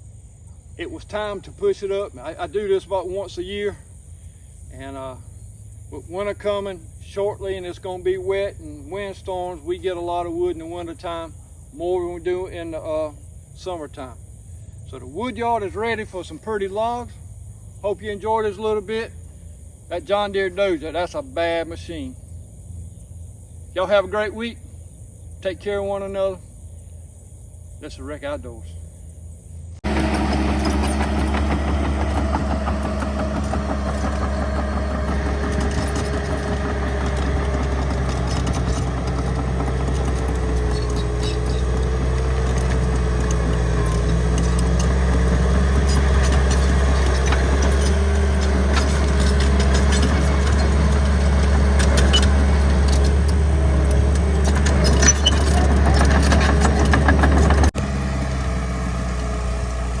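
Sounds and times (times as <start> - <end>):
bulldozer diesel engine running: 0.0 - 60.0.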